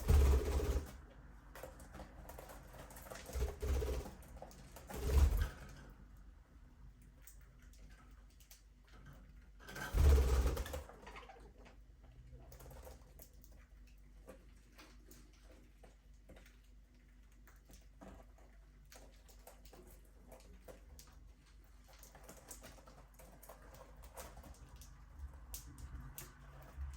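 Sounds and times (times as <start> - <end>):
beaks pecking and scratching: 0.0 - 26.9.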